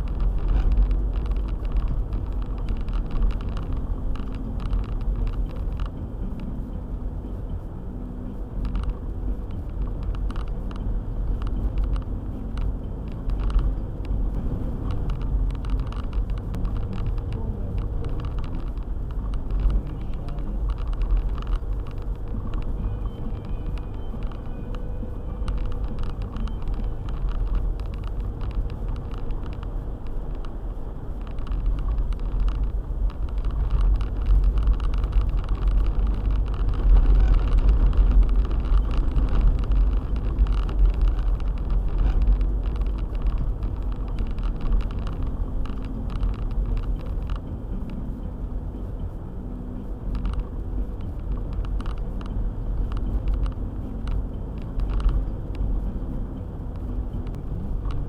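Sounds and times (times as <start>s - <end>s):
car driving on snowy road: 0.0s - 58.0s.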